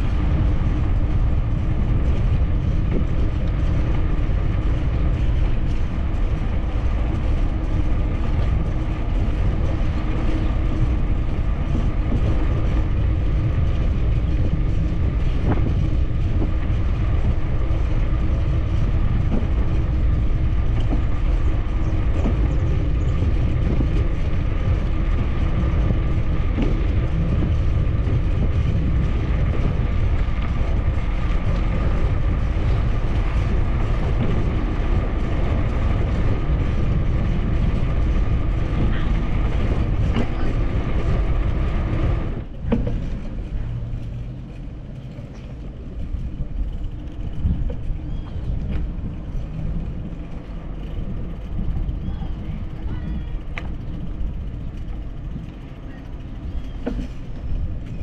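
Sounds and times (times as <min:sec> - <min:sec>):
bicycle tyre noise: 0:00.0 - 0:58.0
wind buffeting microphone: 0:00.0 - 0:58.0.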